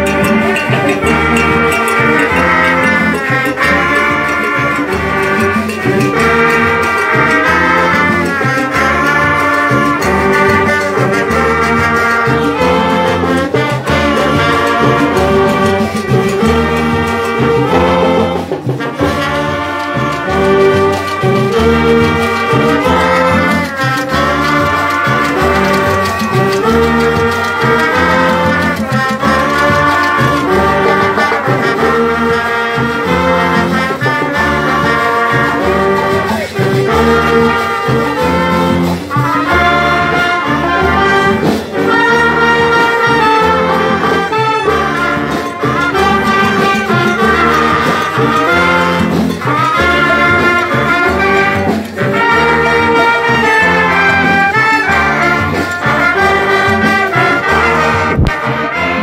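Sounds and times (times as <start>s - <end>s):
drum beat: 0.0s - 59.0s
marching band brass playing: 0.0s - 59.0s.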